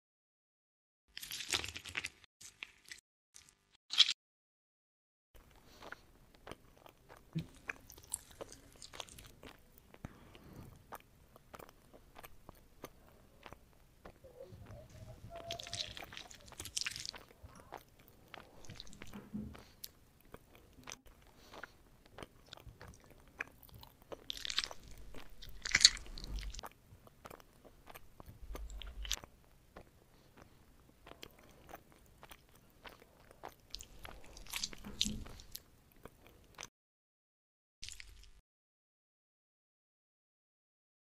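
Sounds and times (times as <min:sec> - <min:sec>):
soft jelly squishing: 0:01.2 - 0:03.7, 0:05.4 - 0:36.7, 0:37.8 - 0:38.4.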